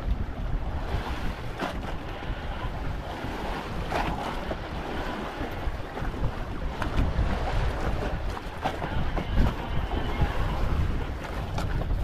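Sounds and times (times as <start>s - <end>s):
waves washing against boat: 0.0s - 12.0s
wind buffeting microphone: 0.0s - 12.0s.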